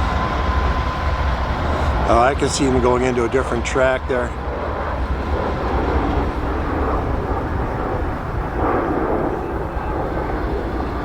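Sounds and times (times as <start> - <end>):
distant diesel locomotives rumbling: 0.0 - 11.0.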